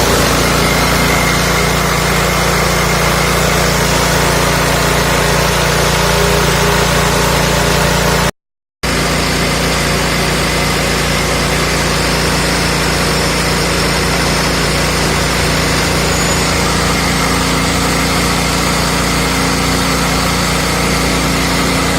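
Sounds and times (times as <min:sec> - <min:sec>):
small petrol engine running: 0:00.0 - 0:21.9.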